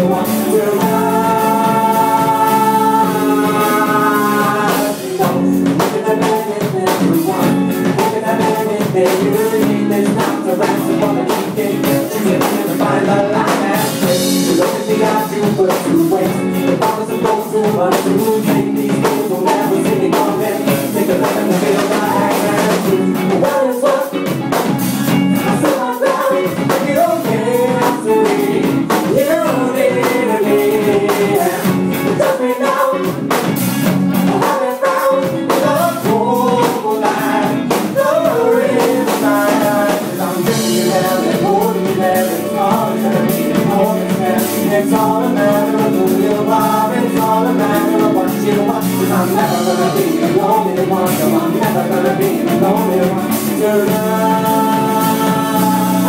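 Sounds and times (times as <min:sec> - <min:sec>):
man and woman singing: 0:00.0 - 0:24.6, 0:25.4 - 0:33.5, 0:34.2 - 0:56.0
drum kit: 0:00.0 - 0:56.0
guitar: 0:00.0 - 0:56.0.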